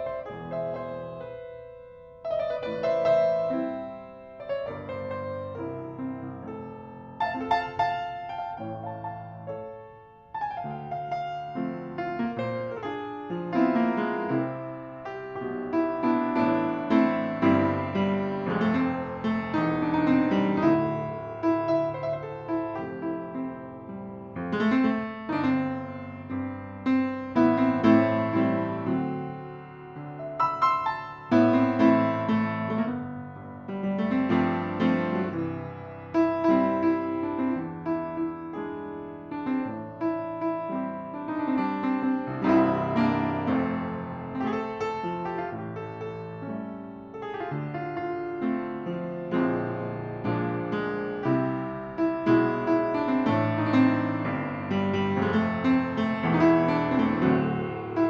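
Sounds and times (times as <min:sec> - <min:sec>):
upright piano playing: 0:00.0 - 0:58.0.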